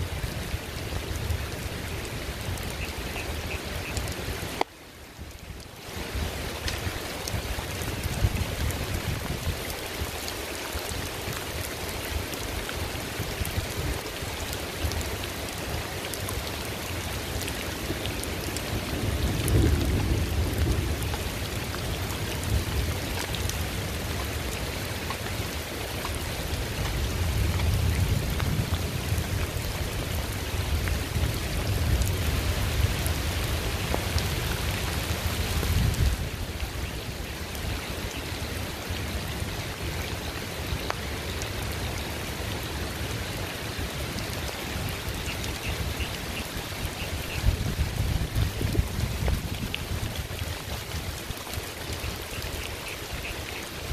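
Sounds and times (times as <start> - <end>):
rain falling: 0.0 - 53.9
raindrops ticking on surface: 0.0 - 53.9.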